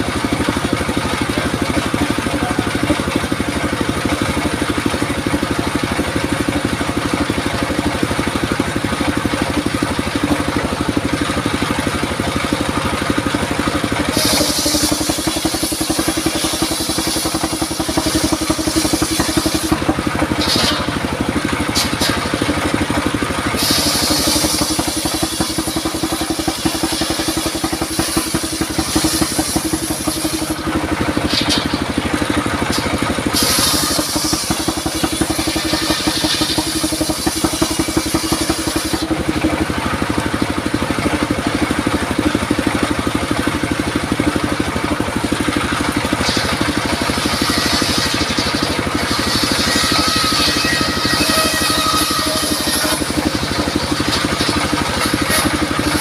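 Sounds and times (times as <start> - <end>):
circular saw running: 0.0 - 56.0
saw cutting into wood: 0.6 - 39.4, 45.9 - 56.0.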